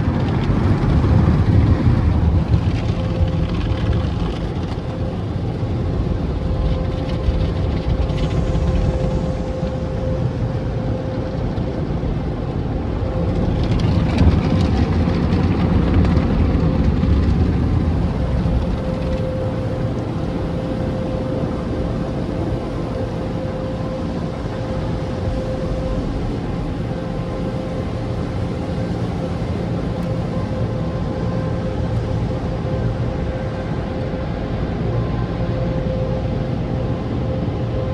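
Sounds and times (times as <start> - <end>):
car wash machinery rumbling: 0.0 - 37.9.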